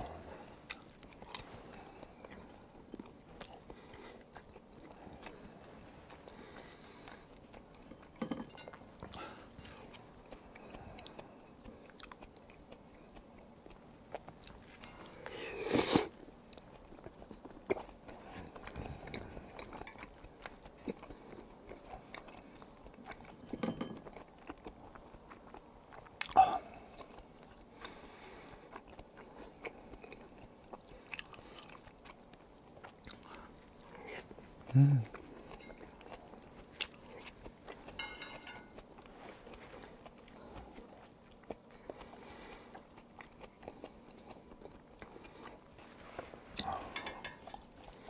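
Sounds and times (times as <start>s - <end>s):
person chewing and biting: 0.6s - 48.0s.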